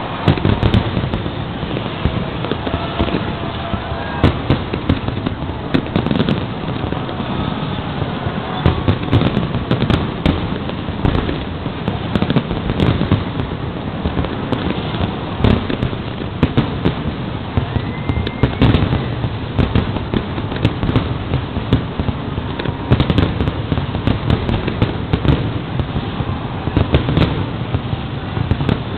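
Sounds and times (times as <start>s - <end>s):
fireworks bursts and bangs: 0.0s - 28.9s.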